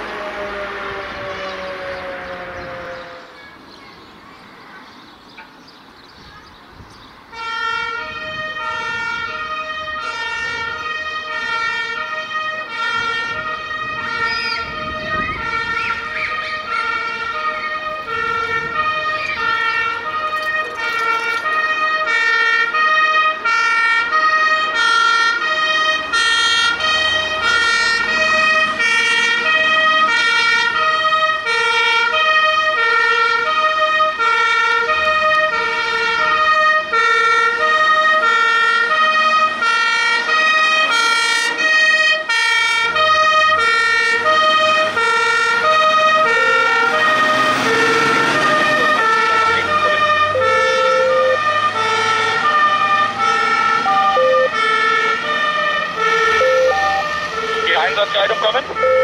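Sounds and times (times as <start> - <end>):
two-tone fire engine siren: 0.0 - 3.7, 7.3 - 59.0
truck engines rumbling: 0.0 - 59.0.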